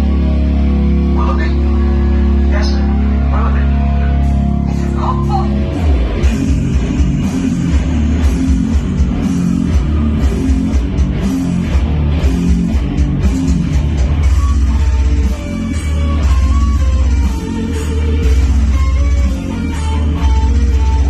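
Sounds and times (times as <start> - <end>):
heavy rock music: 0.0 - 21.0.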